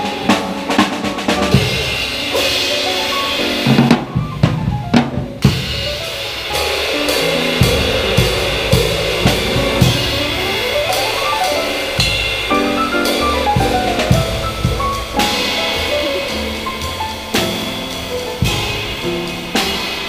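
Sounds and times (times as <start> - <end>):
drum kit beat with cymbal: 0.0 - 20.0
piano and ensemble chords: 0.0 - 20.0.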